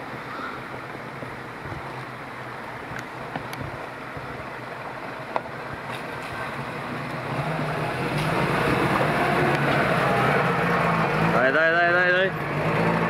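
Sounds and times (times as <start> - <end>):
off-road vehicle engine running: 0.0 - 13.0
steady rushing noise: 0.0 - 13.0.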